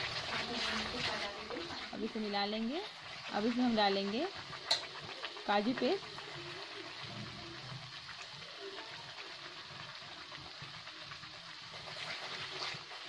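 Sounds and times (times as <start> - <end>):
sauce sizzling in a pan: 0.0 - 13.0.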